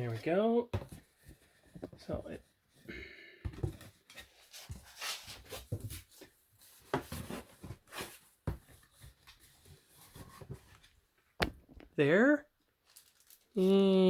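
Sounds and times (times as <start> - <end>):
objects rustling and knocking: 0.0 - 12.0.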